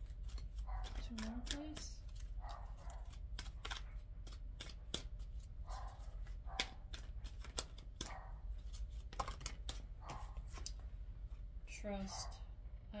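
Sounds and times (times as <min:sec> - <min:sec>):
cards being shuffled: 0:00.0 - 0:11.4.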